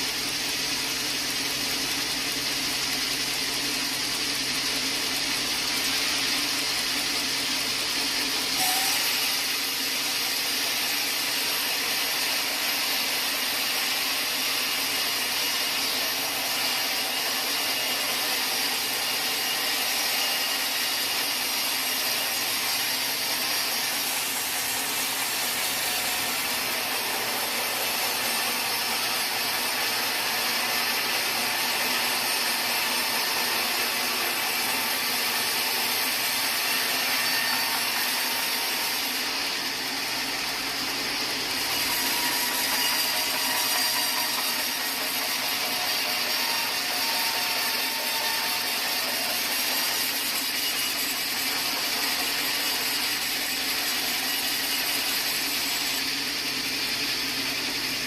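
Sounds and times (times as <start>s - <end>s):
sawmill saw cutting wood: 0.0s - 58.0s.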